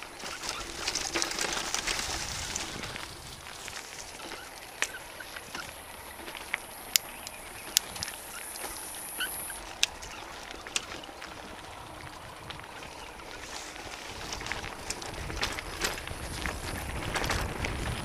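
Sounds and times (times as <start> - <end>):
bike clicks and knocks over bumps: 0.0 - 18.0
tyres and wind rumble: 0.0 - 18.0.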